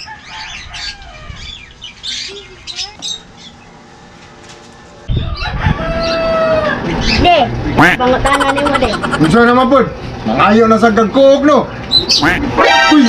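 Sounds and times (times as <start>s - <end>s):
small birds chirping and squawking: 0.0s - 10.6s, 11.2s - 12.9s.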